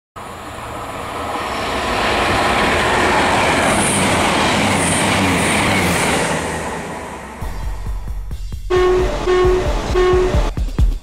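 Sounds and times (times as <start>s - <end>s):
passenger train passing: 0.2s - 10.7s.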